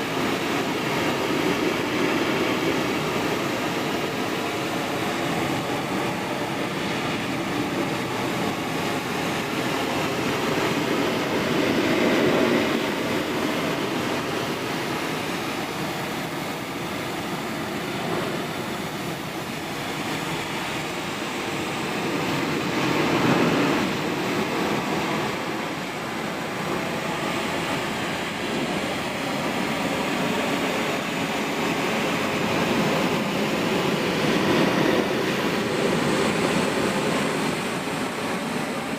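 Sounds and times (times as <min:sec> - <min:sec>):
pressure washer jet hissing on boards: 0:00.0 - 0:38.9.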